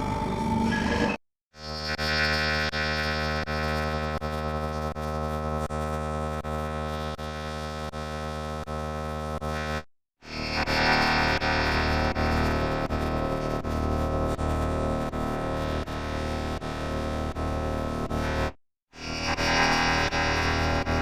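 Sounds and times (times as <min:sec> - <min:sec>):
buzzy electronic tone: 0:00.0 - 0:21.0.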